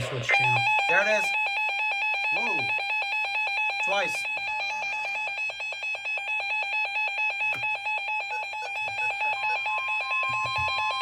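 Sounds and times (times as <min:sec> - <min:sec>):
rapid alternating electronic beeping: 0:00.0 - 0:11.0
steady warning tone: 0:00.0 - 0:11.0.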